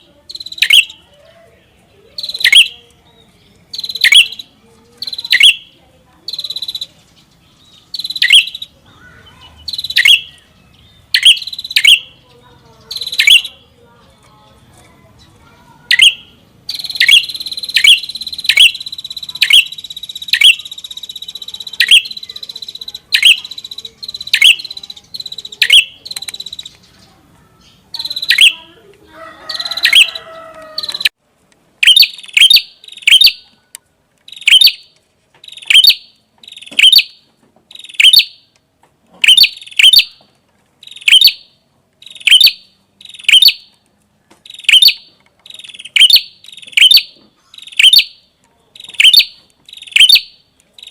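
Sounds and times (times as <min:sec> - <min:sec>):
bird calling sharp notes: 0:00.3 - 0:01.2, 0:02.0 - 0:02.9, 0:03.7 - 0:07.0, 0:07.6 - 0:12.2, 0:12.8 - 0:13.7, 0:15.8 - 0:26.9, 0:27.6 - 0:31.2, 0:31.8 - 0:33.7, 0:34.3 - 0:38.6, 0:39.2 - 0:43.8, 0:44.4 - 0:50.9.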